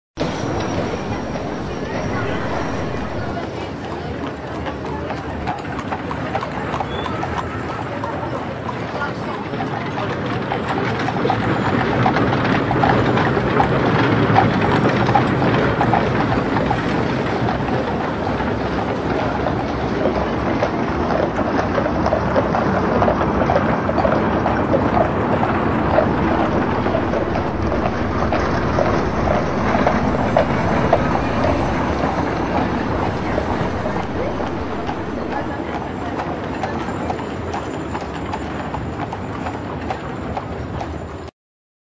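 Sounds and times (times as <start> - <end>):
horse-drawn vehicles rolling past: 0.2 - 41.3.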